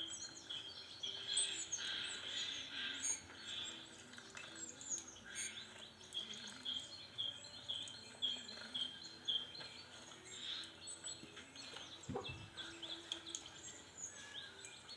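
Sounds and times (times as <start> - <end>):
small songbirds chirping: 0.0 - 14.9.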